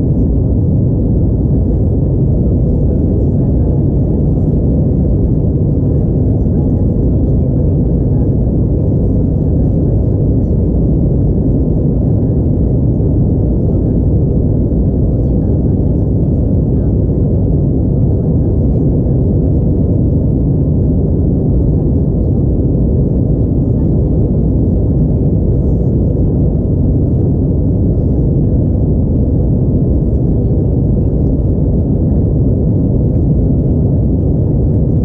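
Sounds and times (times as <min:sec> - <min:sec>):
airplane cabin engine drone: 0:00.0 - 0:35.0.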